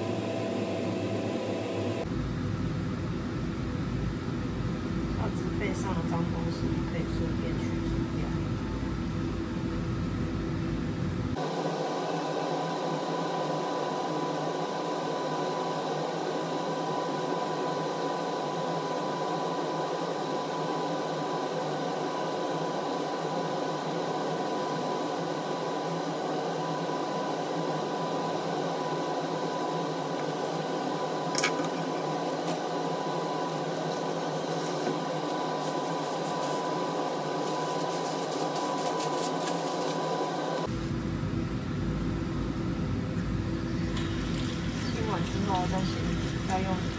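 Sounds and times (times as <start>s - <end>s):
machine humming and whining: 0.0s - 46.9s.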